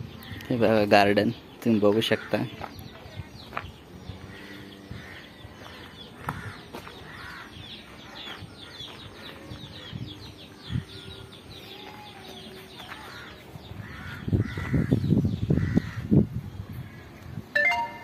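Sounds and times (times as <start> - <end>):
harsh bird calls: 0.0 - 18.0
small birds chirping: 0.0 - 18.0.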